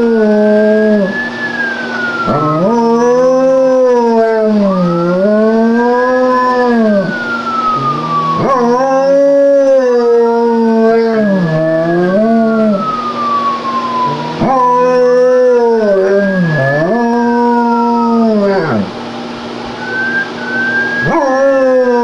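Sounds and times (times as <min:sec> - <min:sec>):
dog howling: 0:00.0 - 0:01.4, 0:02.1 - 0:19.0, 0:19.8 - 0:22.0
siren wailing: 0:00.0 - 0:22.0.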